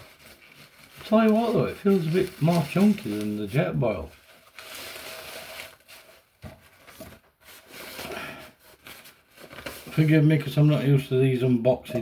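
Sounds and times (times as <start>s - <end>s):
nylon bag rustling: 0.0s - 10.2s.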